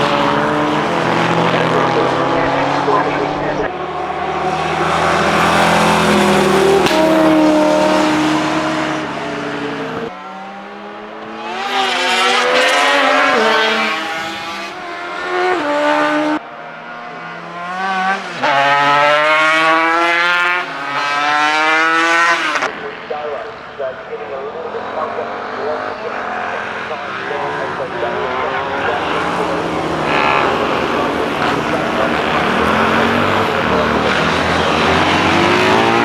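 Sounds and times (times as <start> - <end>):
racing engines passing at high revs: 0.0 - 36.0.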